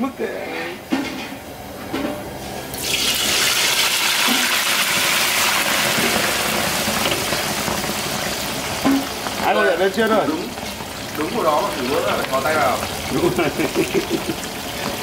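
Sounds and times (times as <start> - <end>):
food sizzling in hot oil: 2.6 - 15.0.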